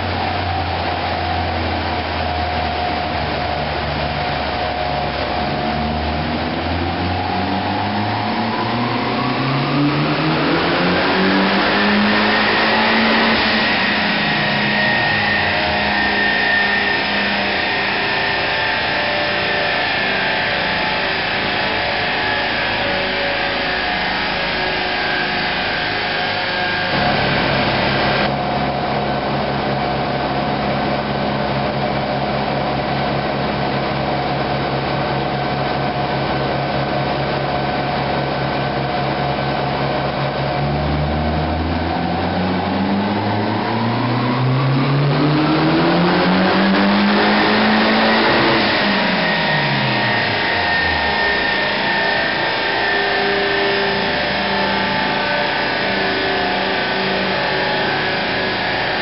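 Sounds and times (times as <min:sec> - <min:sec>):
car engine revving on dynamometer: 0:00.0 - 0:59.0.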